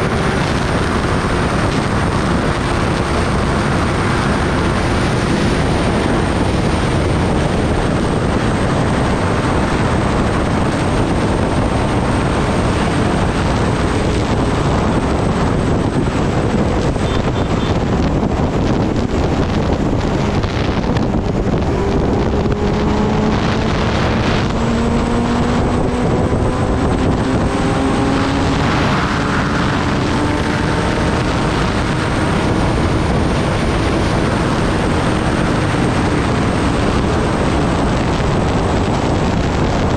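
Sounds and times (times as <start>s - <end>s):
motorcycle engine rising in pitch: 0.0s - 39.9s
wind rush on microphone: 0.0s - 39.9s.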